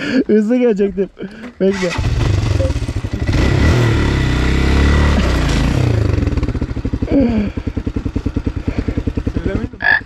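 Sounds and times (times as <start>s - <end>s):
motorbike engine revving and idling: 1.4s - 10.0s.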